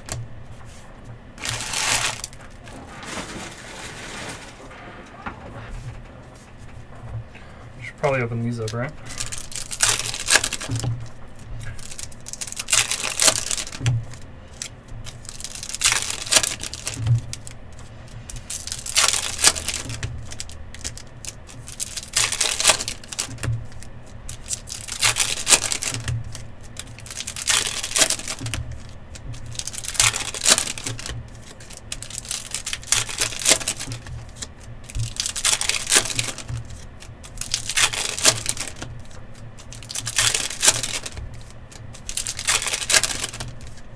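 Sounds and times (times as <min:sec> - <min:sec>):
foil wrapper ripping: 0:01.4 - 0:05.2, 0:08.5 - 0:43.9.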